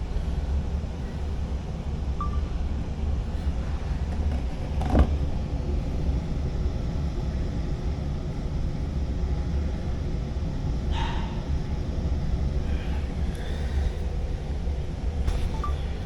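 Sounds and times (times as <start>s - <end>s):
machine running with low rumble: 0.0s - 16.0s.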